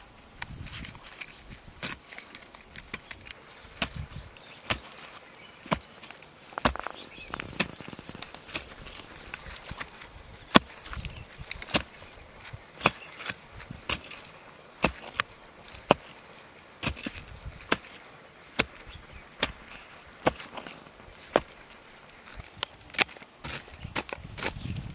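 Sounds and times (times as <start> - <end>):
loose soil rustling: 0.0 - 24.9
hand tool chopping into soil: 0.6 - 24.9.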